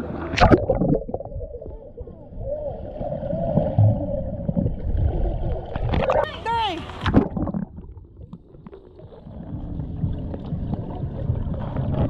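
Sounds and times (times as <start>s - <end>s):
muffled underwater water wash: 0.0s - 12.0s.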